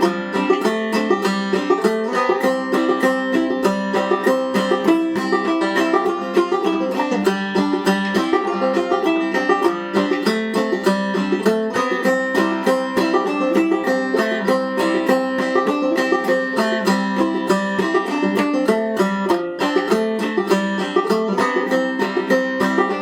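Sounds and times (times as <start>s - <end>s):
banjo playing: 0.0s - 23.0s.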